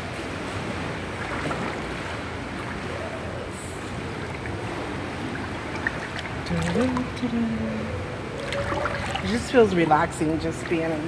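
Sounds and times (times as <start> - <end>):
pool water lapping and sloshing: 0.0 - 11.0.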